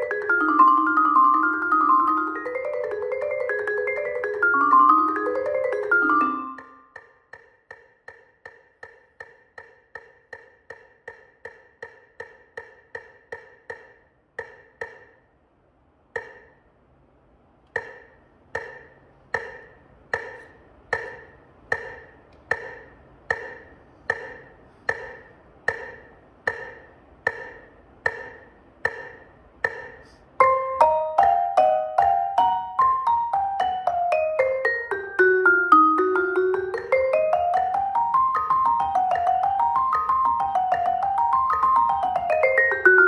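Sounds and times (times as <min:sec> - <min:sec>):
metronome ticking: 0:00.0 - 0:15.4, 0:16.0 - 0:16.7, 0:17.7 - 0:43.0.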